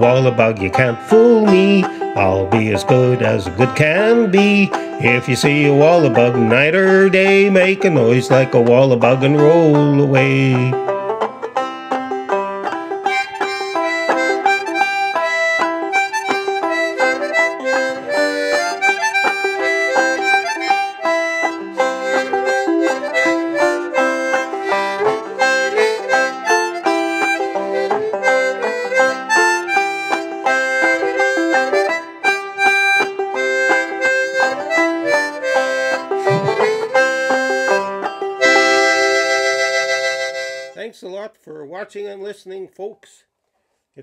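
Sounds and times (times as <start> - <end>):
plucked banjo: 0.0 - 40.8
harmonica playing: 0.0 - 40.9.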